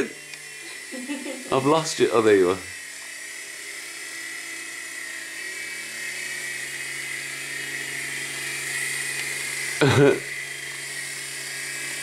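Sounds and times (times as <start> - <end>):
toy helicopter rotors whirring: 0.0 - 12.0.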